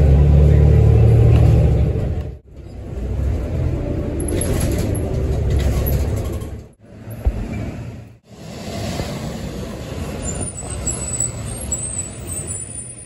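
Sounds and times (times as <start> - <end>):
heavy highway traffic rumble: 0.0 - 13.0
transit vehicle running noise: 0.0 - 13.0
truck passing: 0.0 - 13.0.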